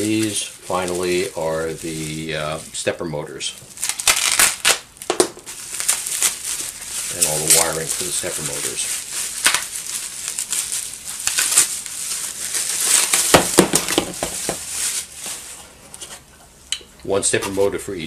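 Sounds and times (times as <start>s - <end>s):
bubble wrap crinkling: 0.0s - 16.3s.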